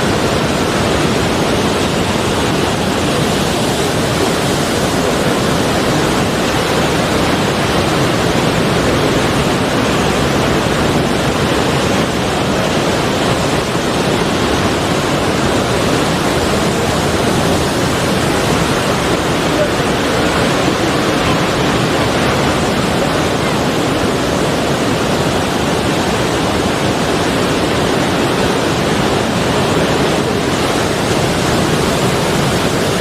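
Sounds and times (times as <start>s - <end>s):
sea surf wash: 0.0s - 33.0s.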